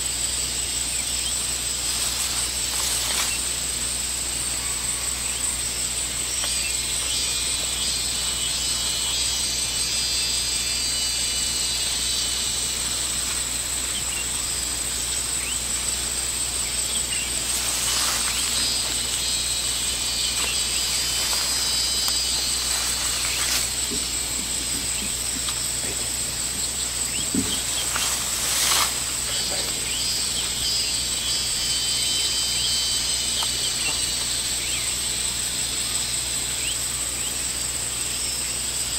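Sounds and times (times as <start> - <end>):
insect chorus droning: 0.0 - 38.9.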